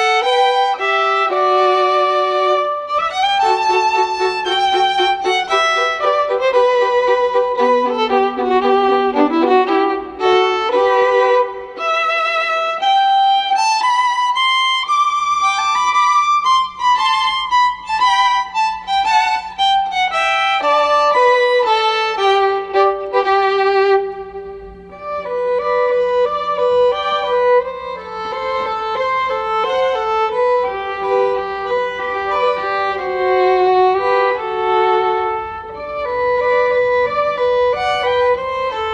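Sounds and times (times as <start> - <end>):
bowed string melody: 0.0 - 38.9.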